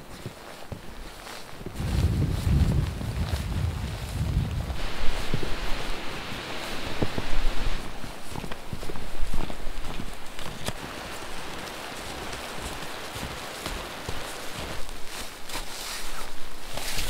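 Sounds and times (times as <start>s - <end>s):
snowshoes crunching through snow: 0.0s - 17.0s.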